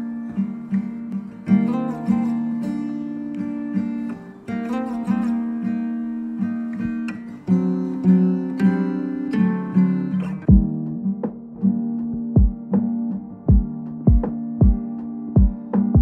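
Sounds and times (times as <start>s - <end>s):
guitar chords: 0.0s - 16.0s.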